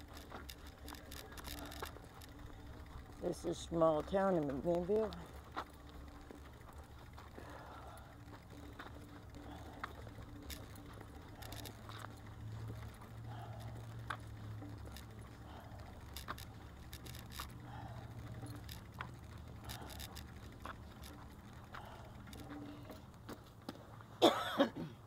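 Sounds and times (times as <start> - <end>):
wind and tyres rumbling: 0.0 - 24.2
bicycle rattling and clicking: 0.0 - 25.0.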